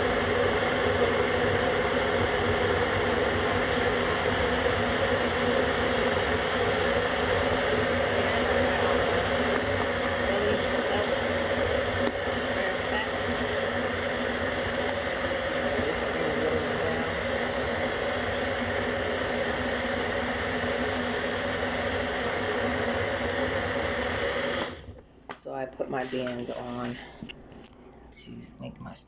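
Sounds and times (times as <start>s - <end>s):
blender motor running: 0.0s - 25.0s.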